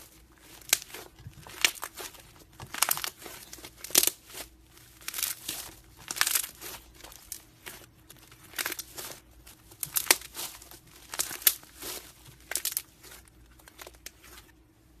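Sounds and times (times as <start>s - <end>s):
slime squelching and popping: 0.4s - 14.3s.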